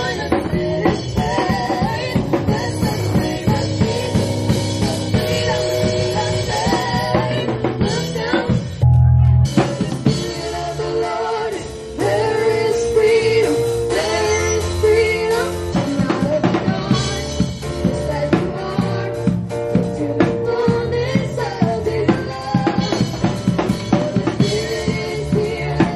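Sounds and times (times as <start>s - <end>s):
people singing: 0.0s - 8.9s, 9.6s - 25.9s
drum kit: 0.0s - 25.9s
stage keyboard: 0.0s - 25.9s.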